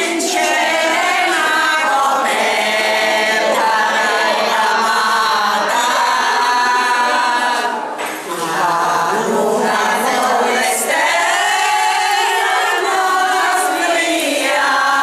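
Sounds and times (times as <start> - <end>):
women singing together: 0.0 - 15.0.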